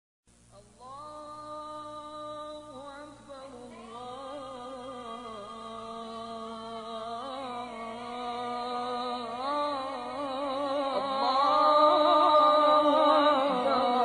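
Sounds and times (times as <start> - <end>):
person singing unaccompanied: 0.5 - 14.0.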